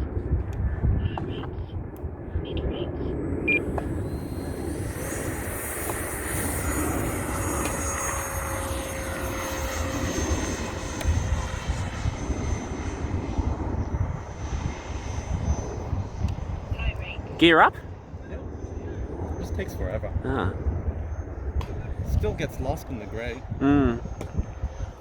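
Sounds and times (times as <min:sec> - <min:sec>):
wind rumble on microphone: 0:00.0 - 0:25.0
electric ducted fan whine: 0:00.9 - 0:25.0.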